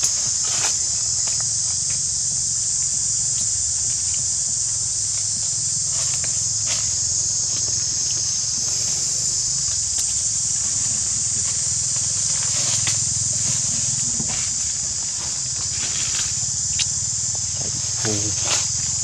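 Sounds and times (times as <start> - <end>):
high-pitched insect chorus: 0.0 - 19.0
rustles in dry leaf litter: 0.0 - 19.0.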